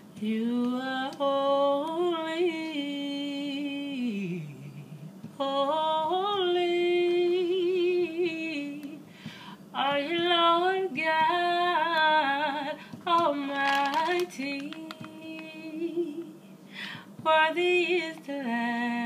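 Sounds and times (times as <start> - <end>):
woman singing unaccompanied: 0.0 - 19.0.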